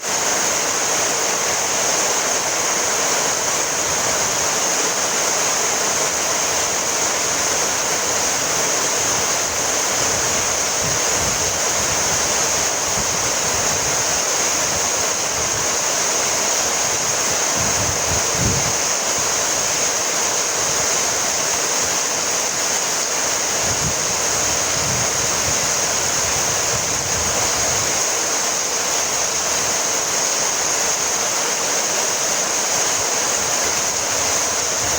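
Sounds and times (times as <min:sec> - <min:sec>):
heavy rain hissing: 0:00.0 - 0:34.9.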